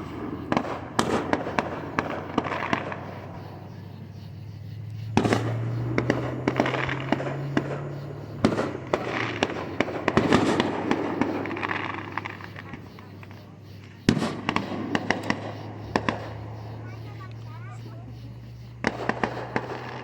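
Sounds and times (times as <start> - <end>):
fireworks bangs and pops: 0.0 - 20.0
fireworks crackling: 0.0 - 20.0.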